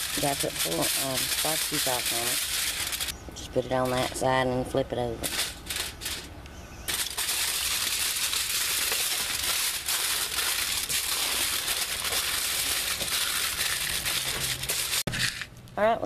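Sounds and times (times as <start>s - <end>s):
aluminium foil crinkling: 0.0s - 3.1s, 3.7s - 4.2s, 5.2s - 6.3s, 6.9s - 15.6s.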